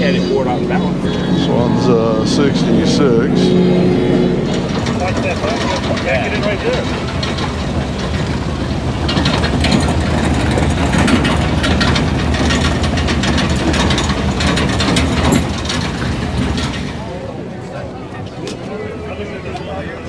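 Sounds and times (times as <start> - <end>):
car engine running: 0.0 - 19.5
rapid ticking clatter: 0.3 - 17.0.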